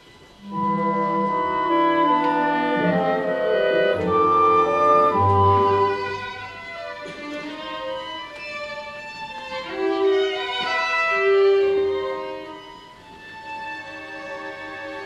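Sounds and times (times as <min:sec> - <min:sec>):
orchestra with bowed strings: 0:00.1 - 0:15.0.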